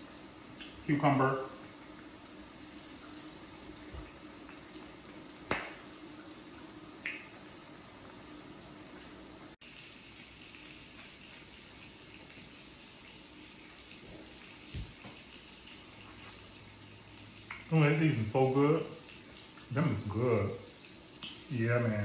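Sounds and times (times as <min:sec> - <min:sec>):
broth simmering: 0:00.0 - 0:22.0.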